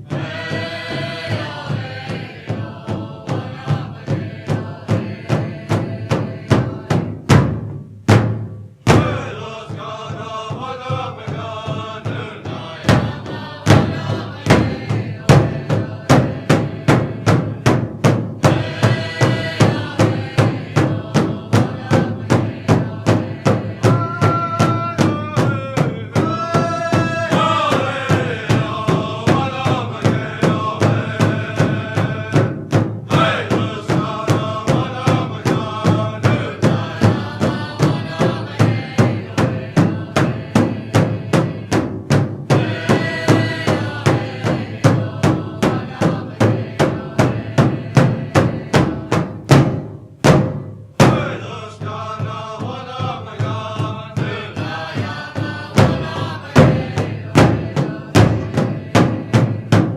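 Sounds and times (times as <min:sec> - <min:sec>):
chanting voices: 0:00.0 - 0:07.5, 0:08.8 - 0:49.7, 0:51.0 - 0:59.9
drum beating steadily: 0:00.0 - 0:59.9.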